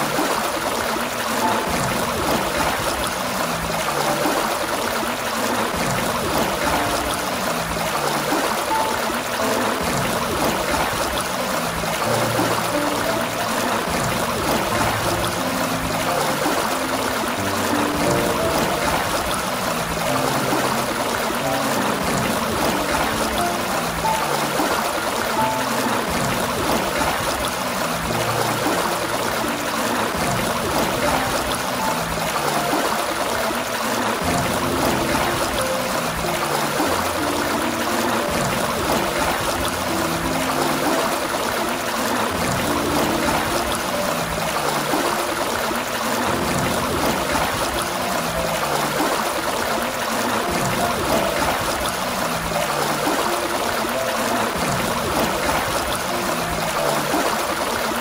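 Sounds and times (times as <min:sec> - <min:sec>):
water gushing from a fountain: 0:00.0 - 0:58.0.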